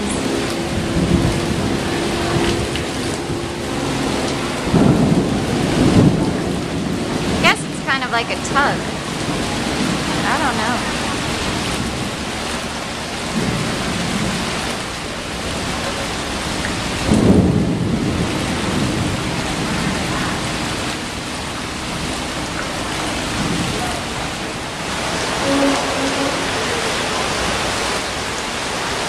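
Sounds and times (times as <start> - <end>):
low thunder rumbles: 0.0 - 28.3
heavy rain falling: 0.0 - 29.0.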